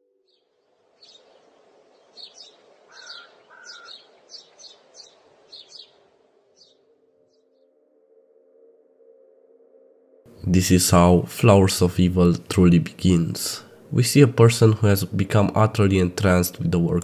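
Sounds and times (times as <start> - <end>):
birds chirping: 0.0 - 7.9, 10.3 - 17.0
faint outdoor hiss: 0.0 - 8.4, 10.3 - 17.0.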